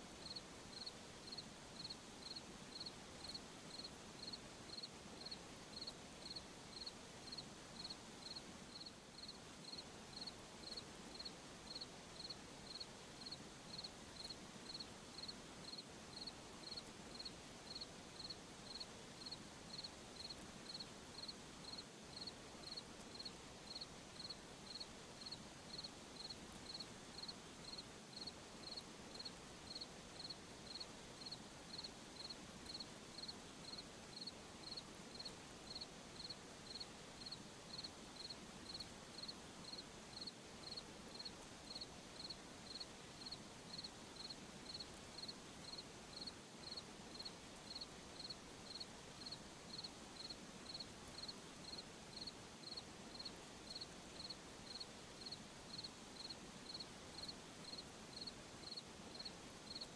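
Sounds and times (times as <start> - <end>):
faint steady hiss: 0.0 - 59.9
cricket chirping: 0.2 - 59.9.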